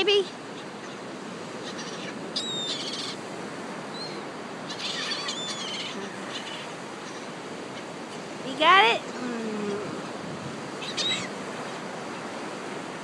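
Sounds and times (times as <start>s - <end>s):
gulls calling: 0.0s - 13.0s
wind: 0.0s - 13.0s.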